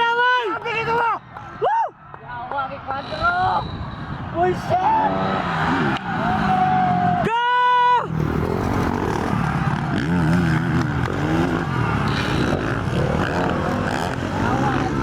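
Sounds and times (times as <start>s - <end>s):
crowd voices: 0.0s - 15.0s
motocross motorcycles running: 2.4s - 15.0s.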